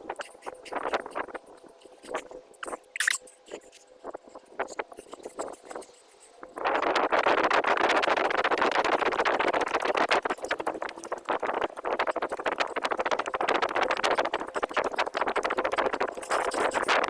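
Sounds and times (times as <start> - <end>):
steady rustling noise: 0.0 - 17.0.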